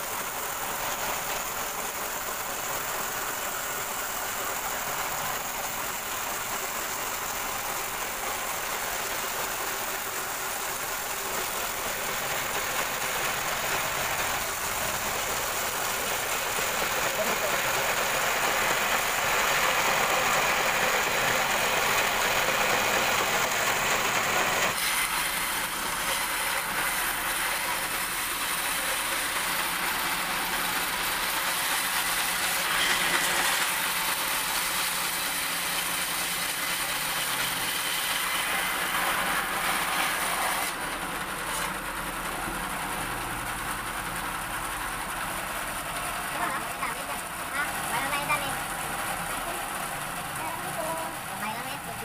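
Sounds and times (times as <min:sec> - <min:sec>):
band saw cutting wood: 0:00.0 - 0:43.1.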